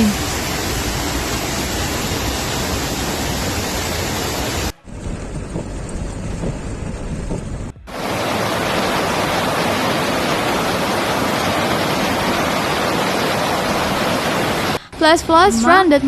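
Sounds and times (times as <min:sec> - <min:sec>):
flood water rushing: 0:00.0 - 0:05.7, 0:07.8 - 0:15.9.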